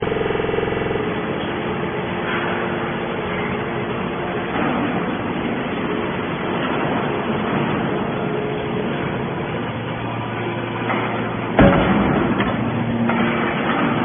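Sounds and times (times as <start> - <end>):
humming tone: 0.0 - 14.0
hydraulic baler running: 0.0 - 14.0
dense clattering noise: 1.0 - 14.0.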